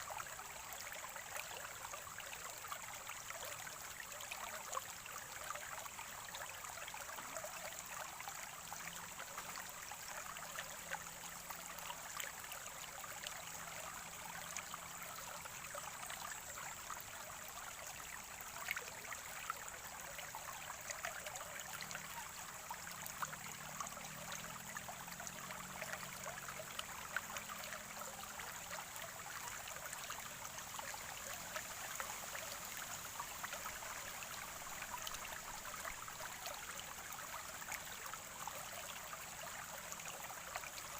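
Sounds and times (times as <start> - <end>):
spring water trickling: 0.0 - 40.9
water drips and splashes: 0.0 - 40.9.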